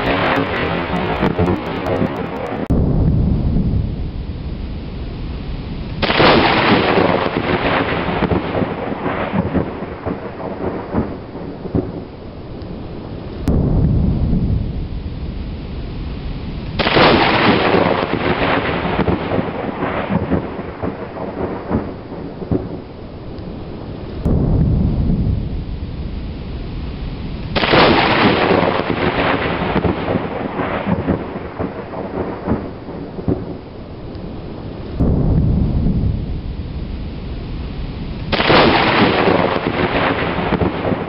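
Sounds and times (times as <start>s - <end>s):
steady rain: 0.0s - 41.0s
thunder cracks and rumble: 0.0s - 41.0s.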